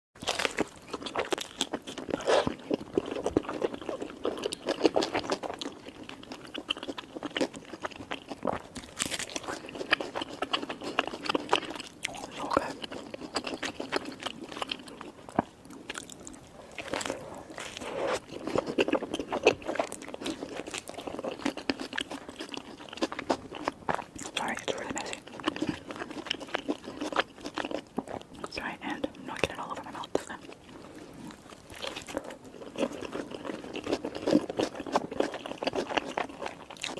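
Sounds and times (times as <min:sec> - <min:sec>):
crunchy chewing of food: 0:00.2 - 0:36.9.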